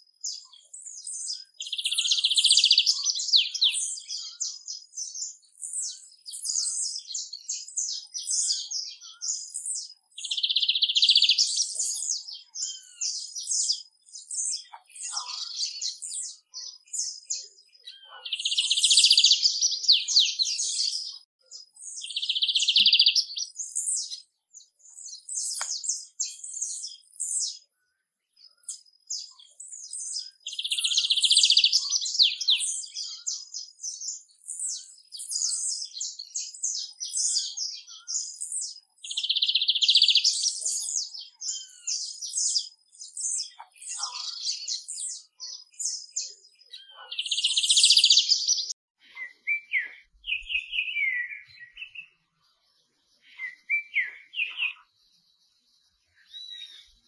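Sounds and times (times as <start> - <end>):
bird singing trills: 0.0 - 57.0.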